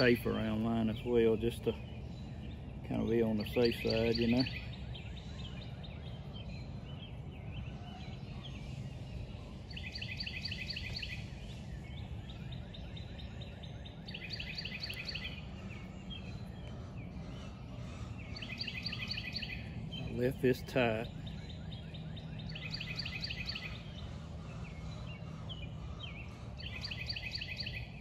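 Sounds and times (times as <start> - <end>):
faint bird chirps: 0.0 - 28.0
low outdoor rumble: 0.0 - 28.0
songbird trilling: 0.0 - 28.0.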